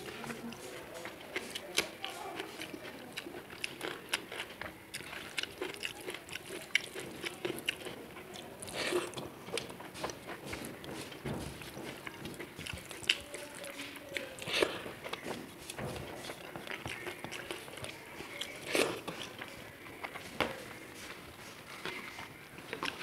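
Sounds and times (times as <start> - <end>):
wet mouth clicks and chewing: 0.0 - 20.5, 21.8 - 23.0
fingers squelching rice and curry: 0.0 - 23.0.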